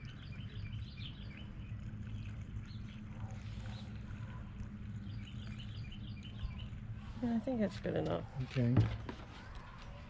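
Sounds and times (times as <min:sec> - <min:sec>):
steady low hum: 0:00.0 - 0:09.2
small birds chirping: 0:00.0 - 0:10.0.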